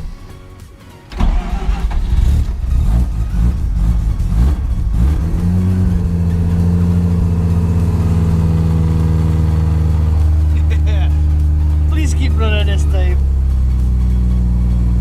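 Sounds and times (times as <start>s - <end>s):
car engine starting and idling: 1.0s - 15.0s.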